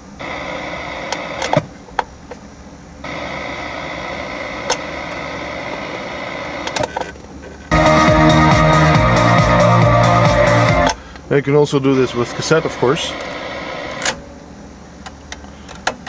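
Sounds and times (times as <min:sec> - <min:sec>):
radio static hiss: 0:00.0 - 0:07.8, 0:09.7 - 0:16.0.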